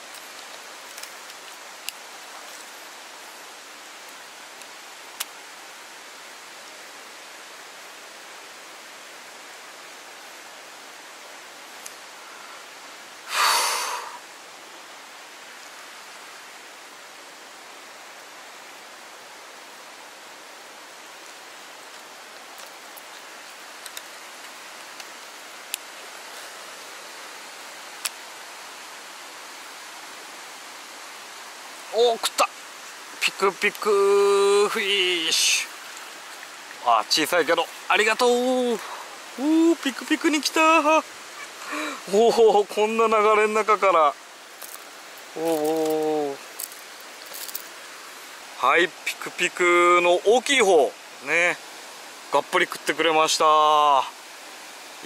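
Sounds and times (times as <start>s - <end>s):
river current hissing: 0.0s - 55.0s
stream rushing: 0.0s - 55.0s.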